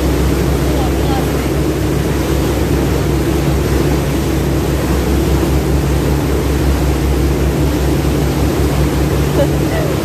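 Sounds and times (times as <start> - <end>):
churning wake water: 0.0 - 10.0
ferry engine droning: 0.0 - 10.0.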